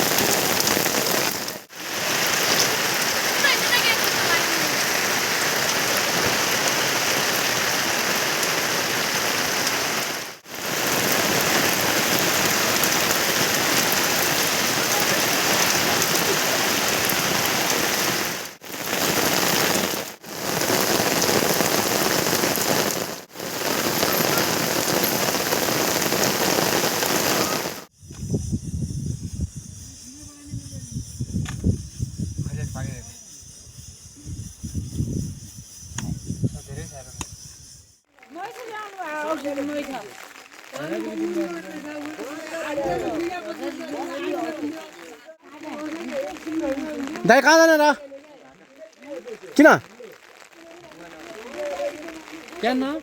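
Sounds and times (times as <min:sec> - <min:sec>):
heavy rain pouring: 0:00.0 - 0:27.9, 0:38.3 - 0:53.0.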